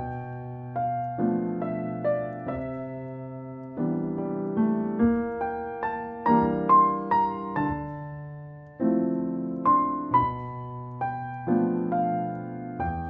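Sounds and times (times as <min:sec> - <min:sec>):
slow solo piano piece: 0:00.0 - 0:13.0.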